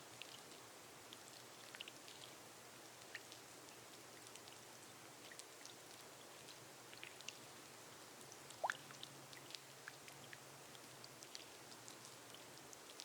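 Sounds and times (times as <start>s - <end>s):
rain on a glass roof: 0.0s - 13.0s.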